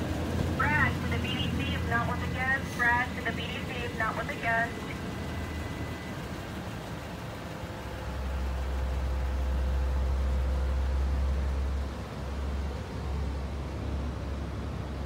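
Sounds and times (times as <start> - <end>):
truck cab rumble with hiss: 0.0 - 15.0.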